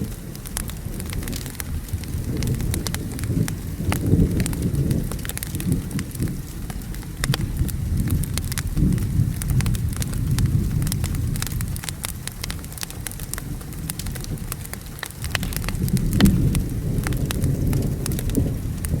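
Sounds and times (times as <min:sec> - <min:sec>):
rolling thunder: 0:00.0 - 0:19.0
steady rain: 0:00.0 - 0:19.0
wood fire crackling: 0:00.0 - 0:19.0.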